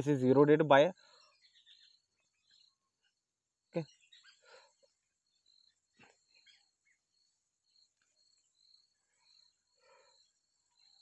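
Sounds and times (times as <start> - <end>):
faint high-pitched chirps: 0.0 - 11.0.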